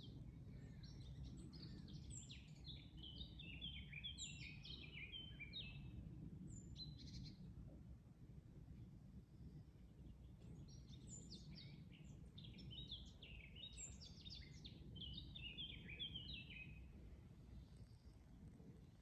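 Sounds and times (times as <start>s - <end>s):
songbird singing: 0.0s - 7.5s, 9.4s - 19.0s.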